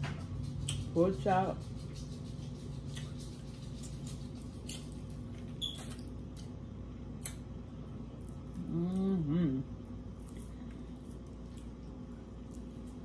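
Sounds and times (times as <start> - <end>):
steady low hum: 0.0 - 13.0
person chewing: 2.1 - 13.0.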